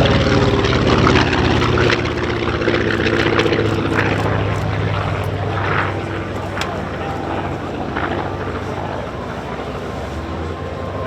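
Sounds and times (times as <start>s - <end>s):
propeller plane engine passing: 0.0s - 11.0s.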